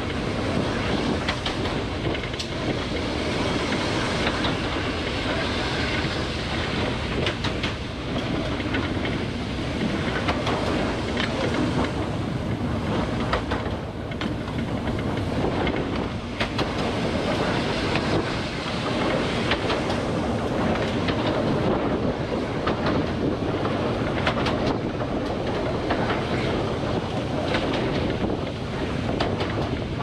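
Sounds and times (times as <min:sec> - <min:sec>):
rail joint clicks: 0:00.0 - 0:30.0
train wheels rumbling on rails: 0:00.0 - 0:30.0.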